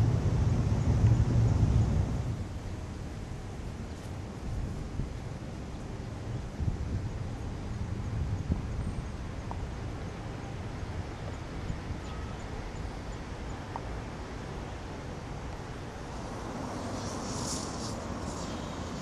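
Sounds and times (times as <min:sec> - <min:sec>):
distant traffic: 0:00.0 - 0:19.0
wind buffeting microphone: 0:00.0 - 0:19.0.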